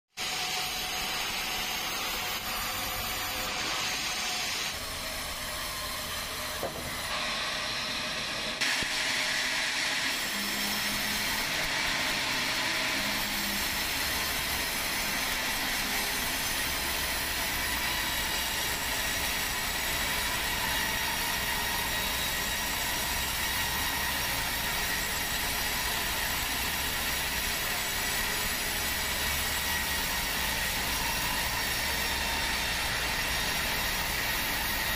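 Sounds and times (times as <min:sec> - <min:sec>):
band saw sawing through log: 0:00.2 - 0:34.9.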